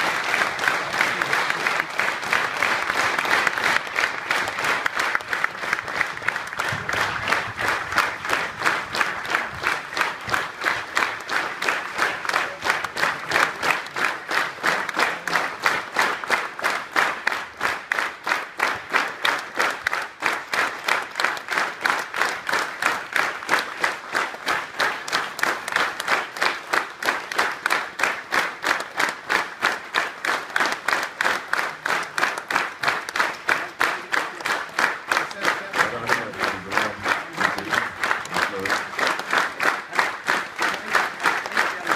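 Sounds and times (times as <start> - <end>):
audience applauding: 0.0 - 41.9.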